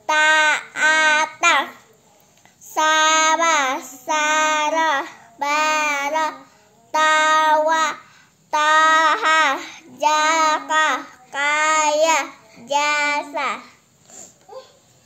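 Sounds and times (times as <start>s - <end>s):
child chanting syllables: 0.0s - 13.8s.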